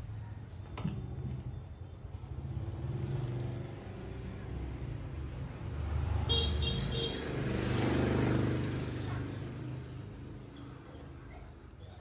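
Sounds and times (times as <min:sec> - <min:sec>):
motor vehicle passing by: 0:01.1 - 0:11.3.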